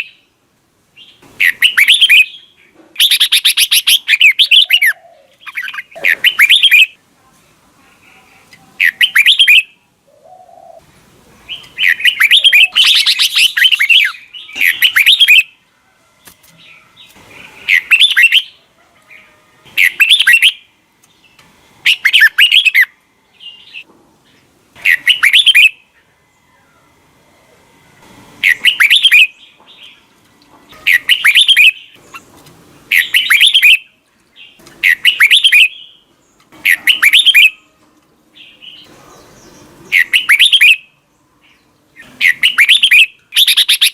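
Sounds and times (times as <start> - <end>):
bird singing warbled phrases: 1.0 - 7.0, 7.9 - 15.6, 16.6 - 26.8, 28.4 - 30.1, 30.7 - 43.9.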